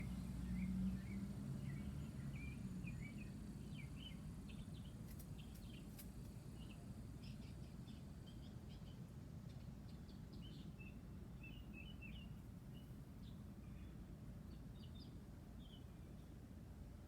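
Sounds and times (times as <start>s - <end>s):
small birds chirping: 0.0s - 16.3s.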